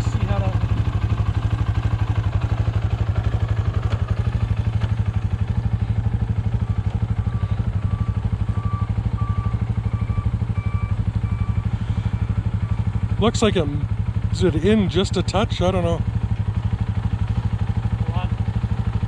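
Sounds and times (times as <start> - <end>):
atv engine idling: 0.0 - 19.0.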